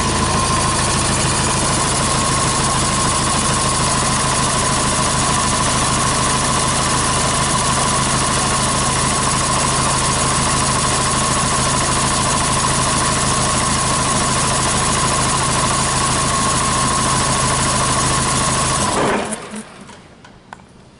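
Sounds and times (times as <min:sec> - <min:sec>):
diesel engine running: 0:00.0 - 0:20.2
high whine: 0:00.0 - 0:20.2.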